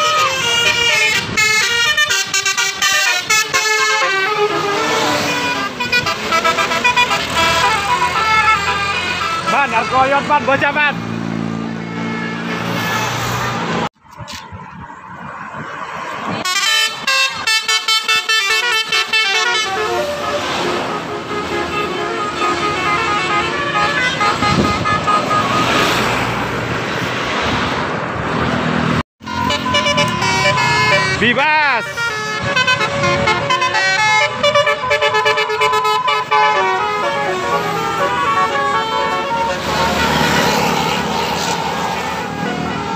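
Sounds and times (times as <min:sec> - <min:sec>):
multi-tone musical bus horn: 0:00.0 - 0:10.7, 0:11.6 - 0:13.7, 0:16.4 - 0:26.3, 0:29.2 - 0:42.9
low drone of passing vehicle: 0:00.0 - 0:17.5, 0:18.8 - 0:42.9
road traffic: 0:00.0 - 0:42.9.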